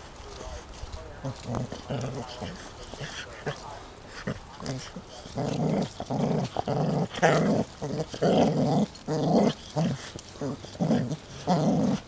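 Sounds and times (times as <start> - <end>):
dog growling: 0.4 - 12.0.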